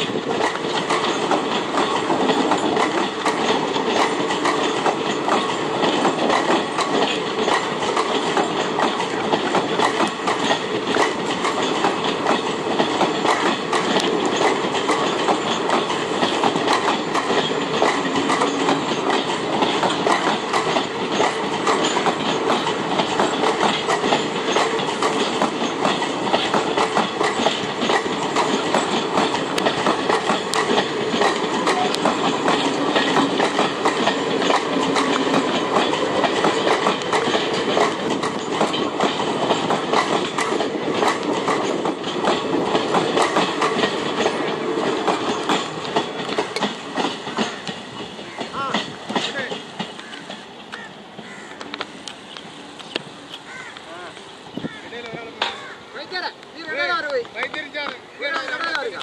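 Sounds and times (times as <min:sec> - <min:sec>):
passenger train rolling past: 0:00.0 - 0:59.0
wheels clicking over rail joints: 0:00.0 - 0:59.0.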